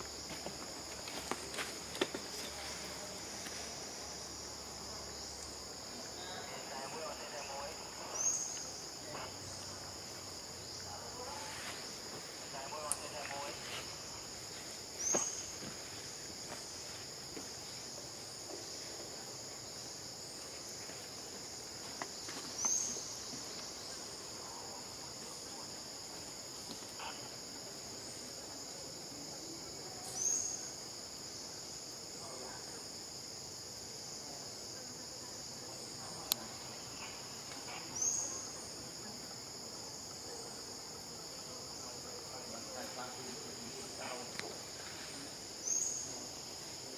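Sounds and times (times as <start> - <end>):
high-pitched insect chorus: 0.0 - 46.9.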